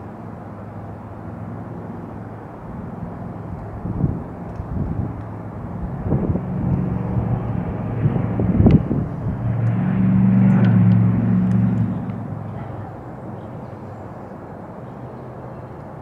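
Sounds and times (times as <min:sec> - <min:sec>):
low engine drone: 0:00.0 - 0:15.8.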